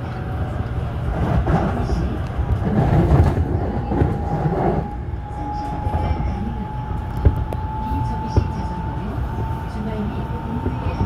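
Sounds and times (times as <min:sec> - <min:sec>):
train ride rumble: 0:00.0 - 0:11.0.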